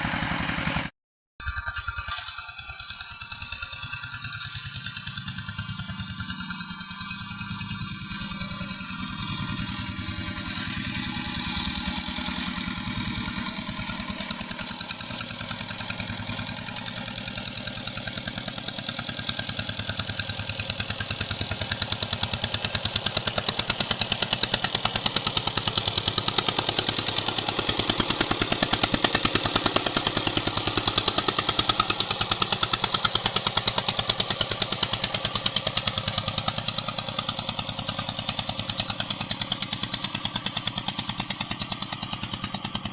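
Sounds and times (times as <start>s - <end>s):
walking tractor engine running: 0.0s - 0.9s, 2.0s - 42.9s.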